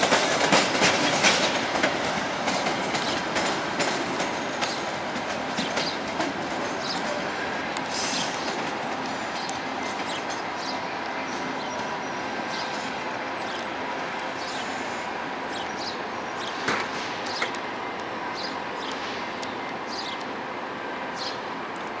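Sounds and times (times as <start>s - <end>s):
distant train rumble and hiss: 0.0s - 22.0s.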